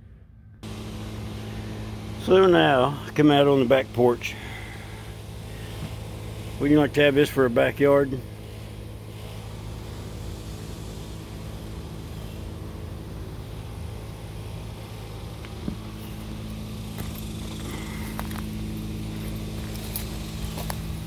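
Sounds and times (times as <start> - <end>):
air conditioner unit humming: 0.0 - 21.0.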